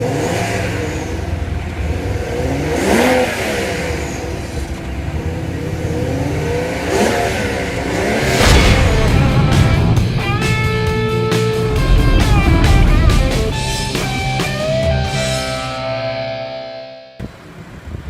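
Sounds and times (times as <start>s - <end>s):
car driving past: 0.3s - 15.7s.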